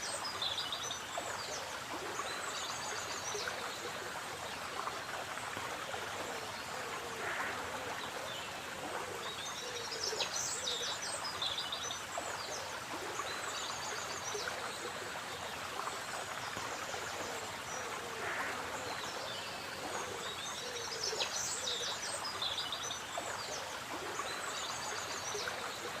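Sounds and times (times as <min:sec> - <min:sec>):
stream of water flowing: 0:00.0 - 0:26.0.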